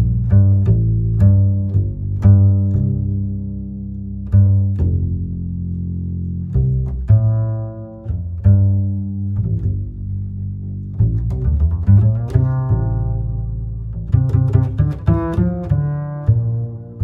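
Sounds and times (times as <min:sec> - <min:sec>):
slow deep string notes: 0:00.0 - 0:17.0.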